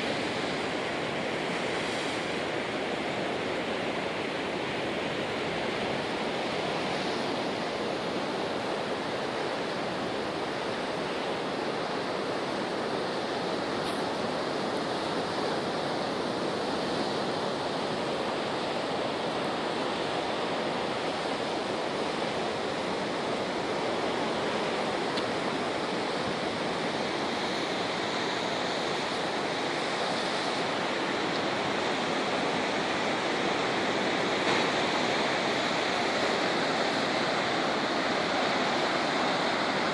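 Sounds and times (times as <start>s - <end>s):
surf breaking on rocky shore: 0.0s - 39.9s.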